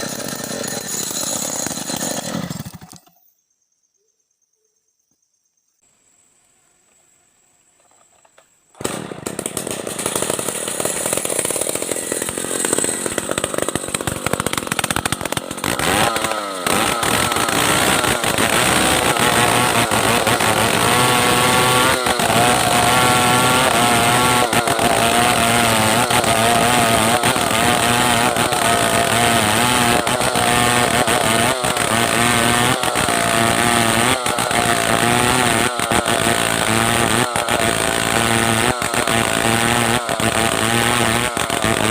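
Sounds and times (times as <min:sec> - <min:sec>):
chainsaw sawing timber: 0:00.0 - 0:03.1, 0:08.8 - 0:41.9.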